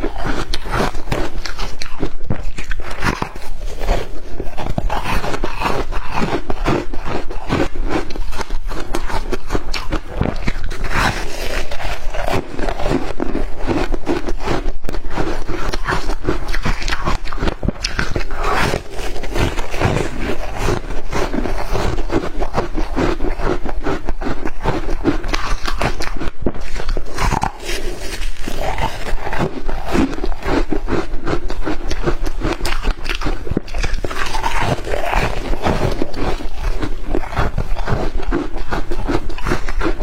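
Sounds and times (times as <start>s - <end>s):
shaved ice crunching: 0.0s - 31.1s, 31.9s - 40.0s.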